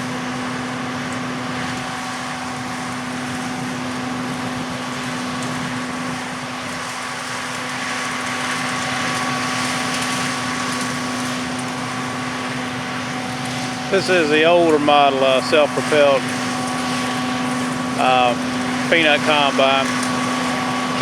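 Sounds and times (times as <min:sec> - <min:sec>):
harvest machinery engine drone: 0:00.0 - 0:21.0.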